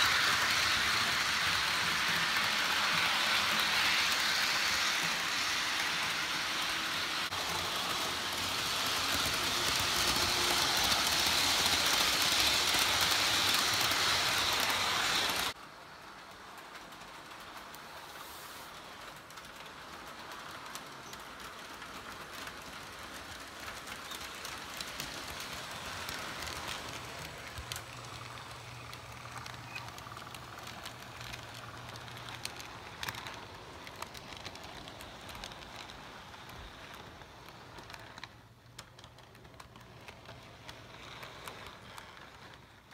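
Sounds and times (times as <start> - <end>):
model train wheels hissing: 0.0 - 42.9.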